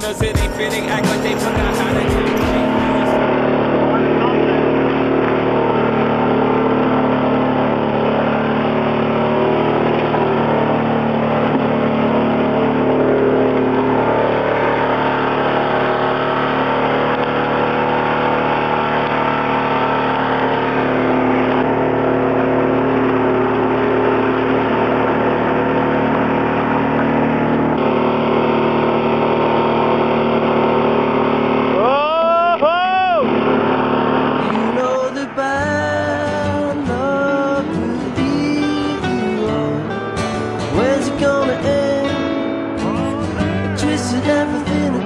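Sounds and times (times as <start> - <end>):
boat engine running: 0.0 - 45.0.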